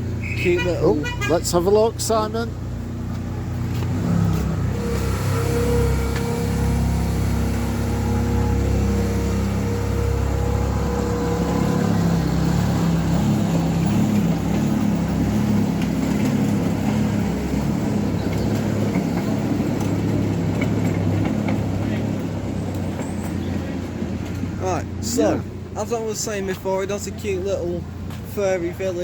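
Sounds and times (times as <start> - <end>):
miniature train engine drone: 2.5 - 27.1.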